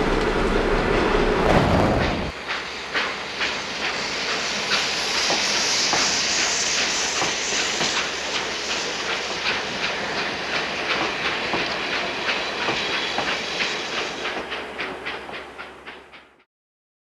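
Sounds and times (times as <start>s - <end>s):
hiss: 1.5s - 16.3s
train wheels clickety-clack: 2.0s - 16.5s.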